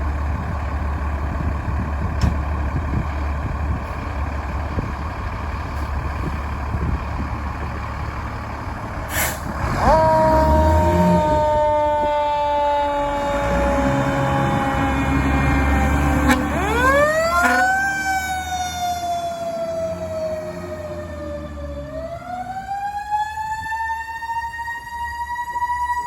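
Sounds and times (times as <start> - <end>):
truck engine rumble: 0.0 - 26.0
fire truck siren wailing: 2.8 - 26.0.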